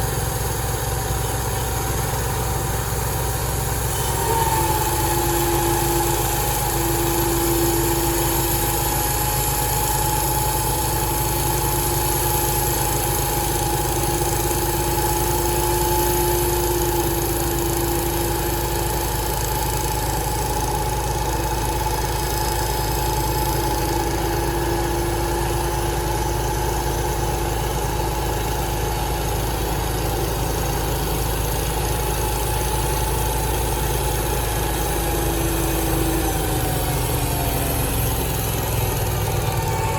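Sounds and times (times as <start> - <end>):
sawmill engine drone: 0.0 - 39.9
steady high whine: 0.0 - 39.9.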